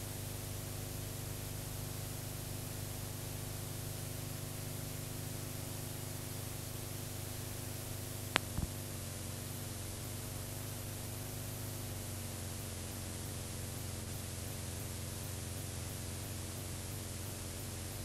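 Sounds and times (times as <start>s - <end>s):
low electrical hum: 0.0s - 18.0s
static hiss: 0.0s - 18.0s.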